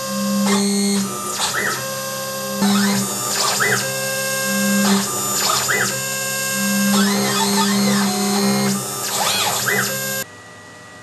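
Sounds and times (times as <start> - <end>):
stepper motors whirring: 0.0 - 10.2
router spindle whining: 0.0 - 10.3.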